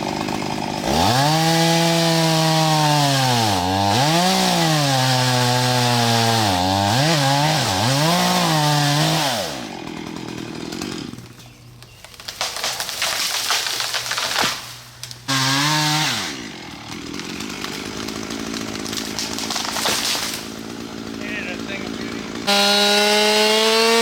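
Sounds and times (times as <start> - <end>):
chainsaw cutting into tree: 0.0 - 24.0.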